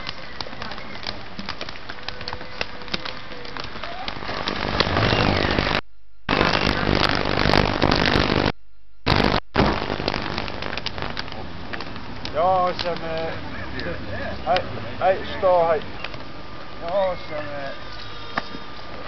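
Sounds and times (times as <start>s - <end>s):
videotape crackling and hissing: 0.0s - 19.0s.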